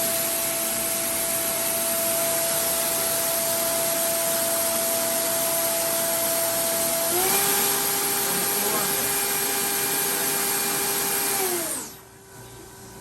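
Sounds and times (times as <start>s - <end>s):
machine spindle high whine: 0.0s - 13.0s.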